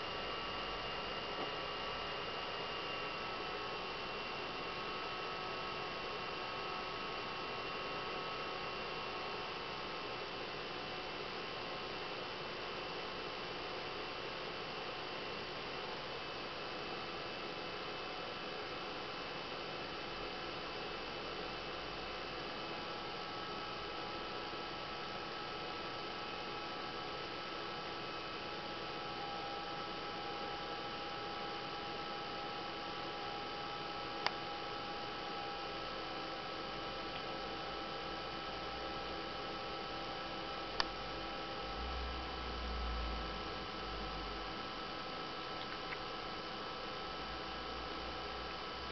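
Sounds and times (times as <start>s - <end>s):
projector cooling fan whooshing: 0.0s - 48.9s.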